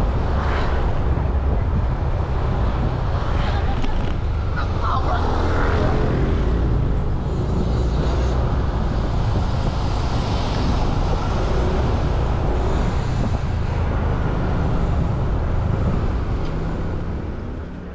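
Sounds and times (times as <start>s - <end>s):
road and traffic noise: 0.0s - 17.9s.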